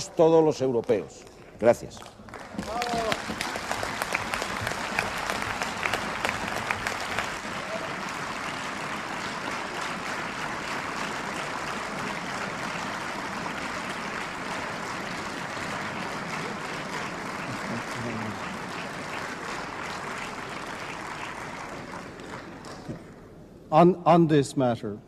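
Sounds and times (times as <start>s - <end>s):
crowd applauding: 0.8s - 23.4s.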